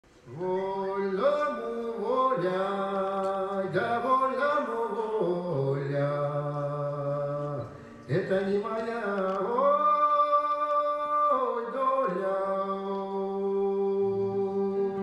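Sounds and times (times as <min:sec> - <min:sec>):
man singing folk melody: 0:00.2 - 0:15.0.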